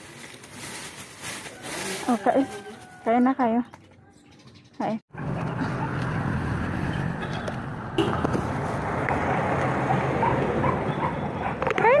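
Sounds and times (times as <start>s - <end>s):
motor vehicle rumbling: 0.0s - 12.0s.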